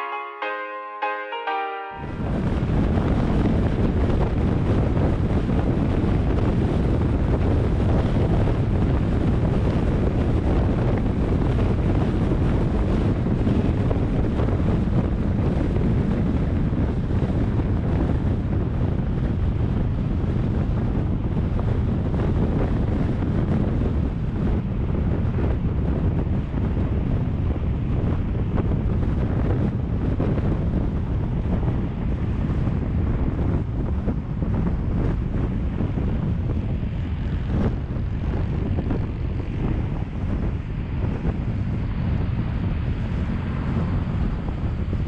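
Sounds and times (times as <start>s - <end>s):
wind buffeting microphone: 2.1s - 45.0s.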